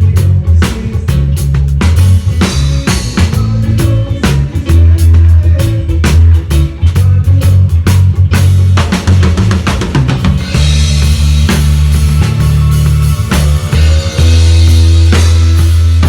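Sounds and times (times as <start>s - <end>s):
deep bass line: 0.0s - 16.0s.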